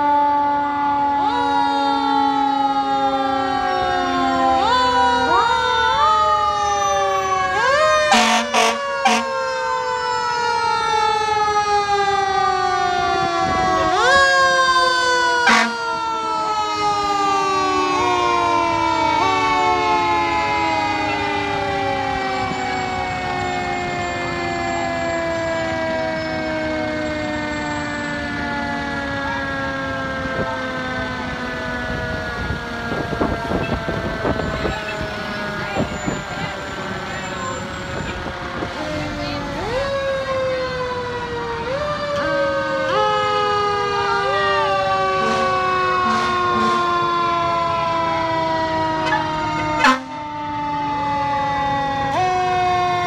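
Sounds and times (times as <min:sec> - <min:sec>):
fire engine sirens wailing: 0:00.0 - 0:53.0.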